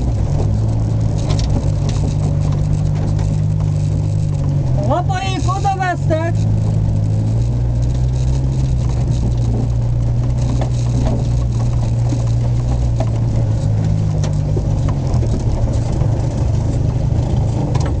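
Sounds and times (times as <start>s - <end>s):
car knocks and rattles: 0.0s - 18.0s
race car engine running: 0.0s - 18.0s.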